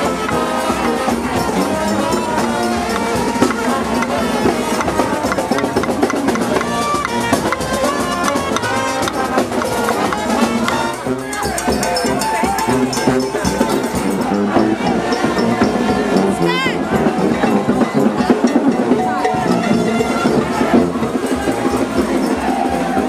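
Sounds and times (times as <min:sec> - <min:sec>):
brass band playing a march: 0:00.0 - 0:23.0
crowd voices: 0:00.0 - 0:23.0
driving drum beat: 0:00.0 - 0:23.0.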